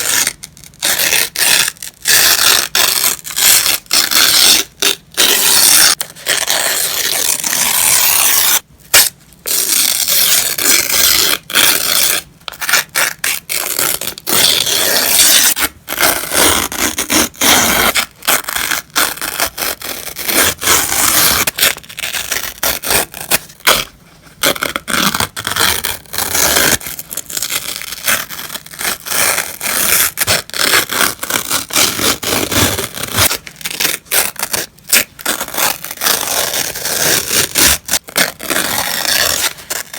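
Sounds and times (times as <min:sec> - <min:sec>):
paper tearing: 0:00.0 - 0:39.9.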